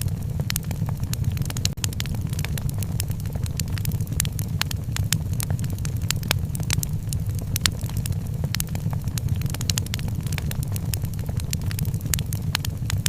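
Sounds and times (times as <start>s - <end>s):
sharp pops of fire: 0.0s - 13.0s
wood fire crackling: 0.0s - 13.0s.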